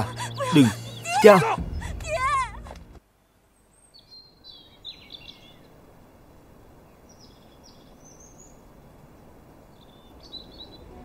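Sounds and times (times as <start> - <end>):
small birds chirping: 0.0 - 2.4, 3.2 - 5.8, 6.8 - 11.0
faint outdoor hiss: 0.0 - 11.0.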